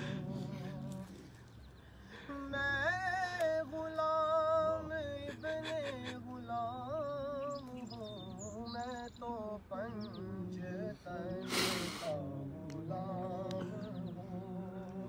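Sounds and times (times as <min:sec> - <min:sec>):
person singing unaccompanied: 0:00.0 - 0:01.5, 0:02.1 - 0:15.0.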